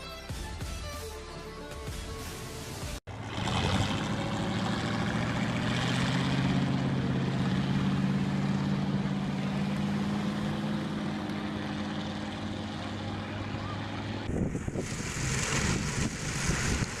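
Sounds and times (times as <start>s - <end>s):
heavy vehicle engine humming: 1.3s - 17.0s.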